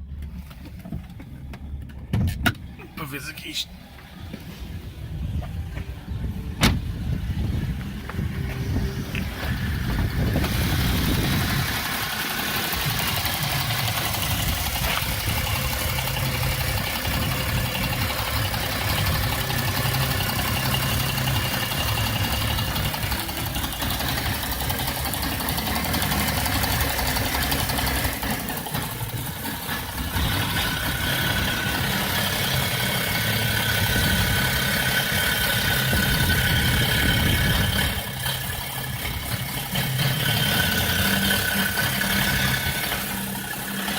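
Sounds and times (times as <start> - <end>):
car engine idling roughly: 0.0 - 43.9.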